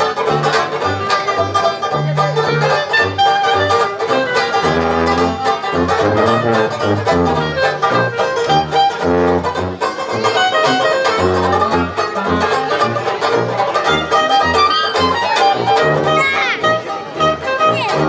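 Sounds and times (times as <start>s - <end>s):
bass line in short notes: 0.0s - 18.0s
dixieland jazz band playing: 0.0s - 18.0s.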